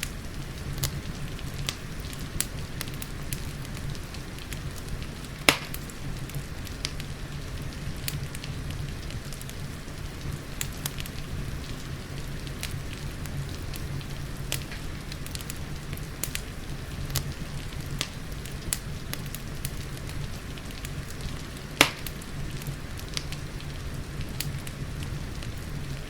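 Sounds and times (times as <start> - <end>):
rain pattering: 0.0 - 26.0
wood fire crackling and popping: 0.0 - 26.0.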